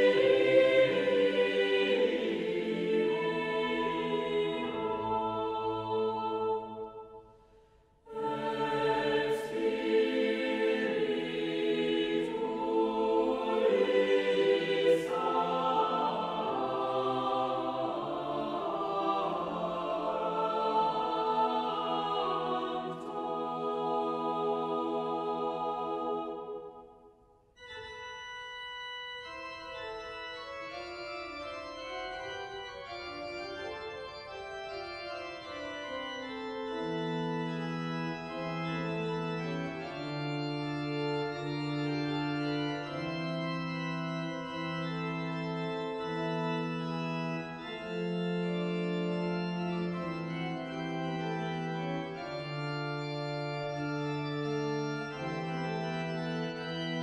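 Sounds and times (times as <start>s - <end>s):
pipe organ playing held chords: 0.0s - 7.0s, 8.1s - 26.7s, 27.6s - 57.0s.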